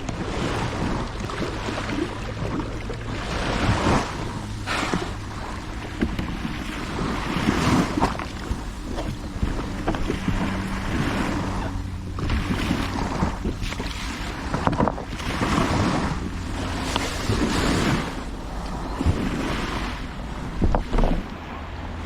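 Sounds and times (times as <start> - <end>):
water splashing around kayak: 0.0 - 22.0
wind on microphone: 0.0 - 22.0.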